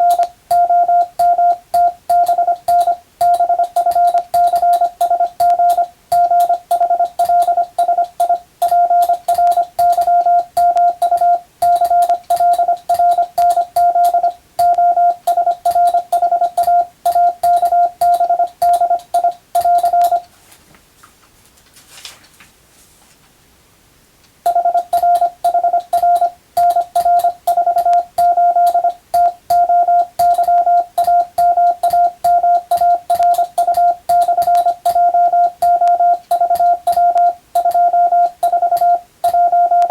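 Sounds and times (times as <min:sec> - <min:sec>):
morse code tone: 0:00.0 - 0:20.3, 0:24.5 - 0:39.9.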